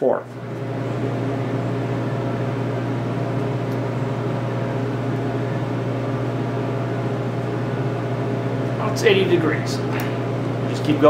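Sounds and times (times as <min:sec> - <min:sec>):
motor humming: 0:00.2 - 0:11.0.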